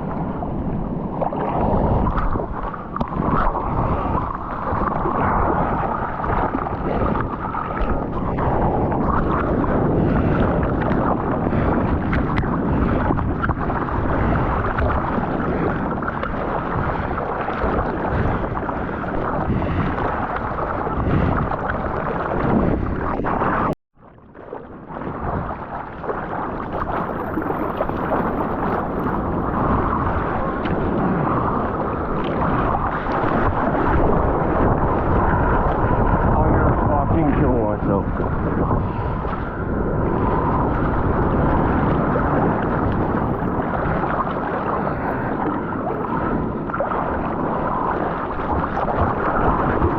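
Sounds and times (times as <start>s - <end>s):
surf rushing: 0.0s - 23.8s, 24.4s - 49.9s
wind buffeting microphone: 0.0s - 49.9s.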